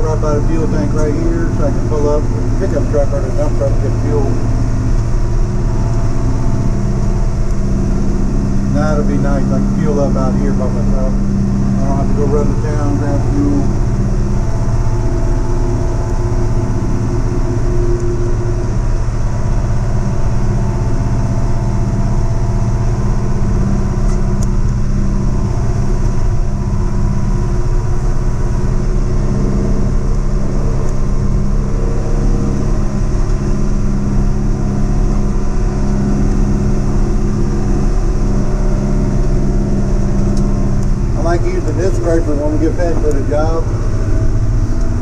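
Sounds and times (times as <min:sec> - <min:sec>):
diesel engine droning: 0:00.0 - 0:45.0.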